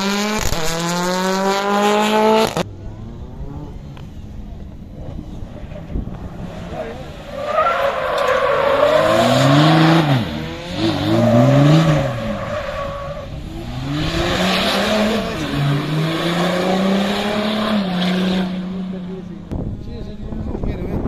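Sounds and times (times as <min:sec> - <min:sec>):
rally car engine revving: 0:00.0 - 0:20.6.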